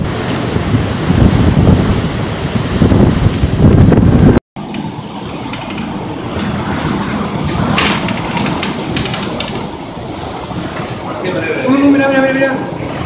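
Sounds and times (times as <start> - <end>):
strong wind on microphone: 0.0 - 11.2.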